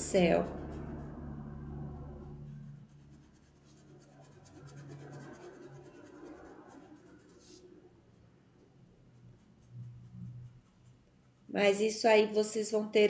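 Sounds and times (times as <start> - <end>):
paintbrush scratching on fabric: 0.0 - 7.9, 8.9 - 12.1.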